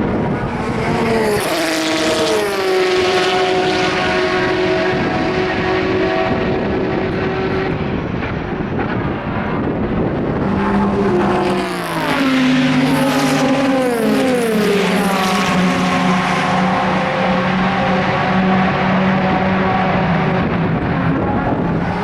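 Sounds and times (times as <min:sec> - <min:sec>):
racing car engines passing: 0:00.0 - 0:22.0.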